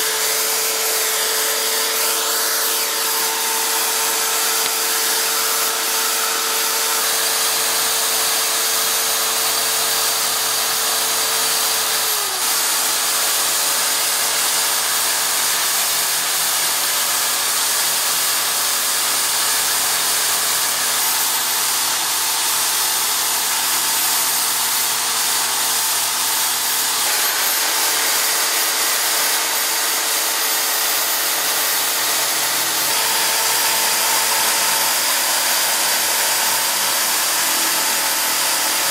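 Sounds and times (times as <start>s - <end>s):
drill boring into wood: 0.0s - 38.9s
electric drill whining: 0.0s - 38.9s
sanding wood: 0.0s - 38.9s.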